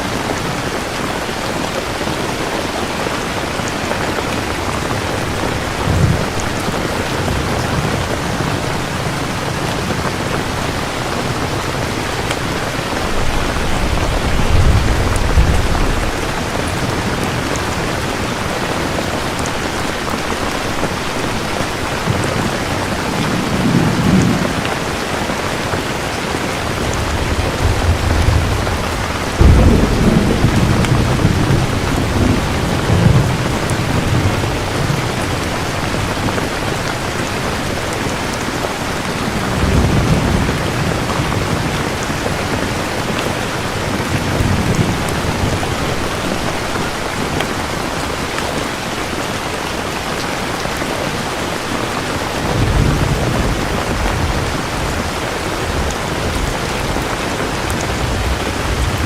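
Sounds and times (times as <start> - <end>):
heavy rain falling: 0.0 - 59.0
thunder crack and rumble: 4.3 - 20.9, 21.8 - 47.7, 52.4 - 59.0.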